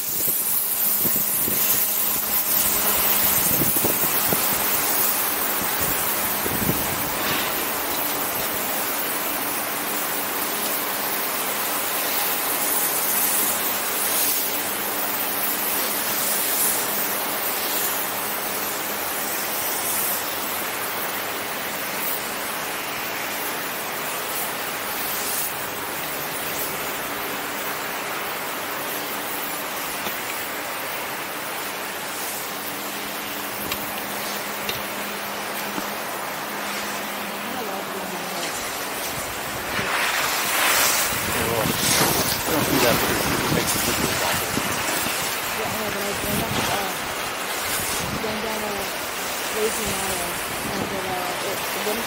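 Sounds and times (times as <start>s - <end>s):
wind rushing hiss: 0.0s - 52.0s.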